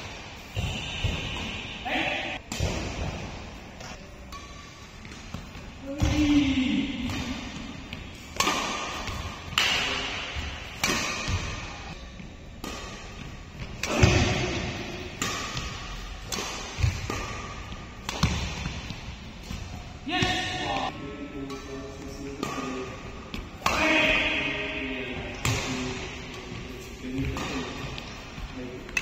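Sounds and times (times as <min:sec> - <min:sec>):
racket hitting shuttlecock: 0:00.0 - 0:29.0.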